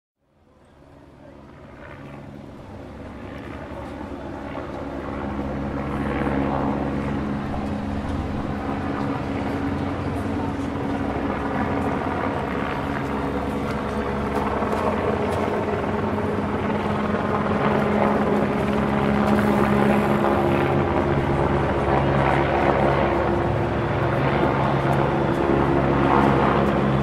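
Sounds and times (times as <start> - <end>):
helicopter flying overhead: 0.3 - 27.0.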